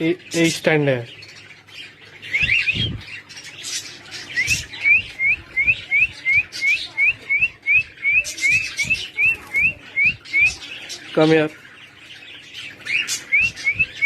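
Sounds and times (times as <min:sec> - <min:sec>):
birds chirping: 0:00.0 - 0:14.0
birds squawking: 0:00.0 - 0:14.0.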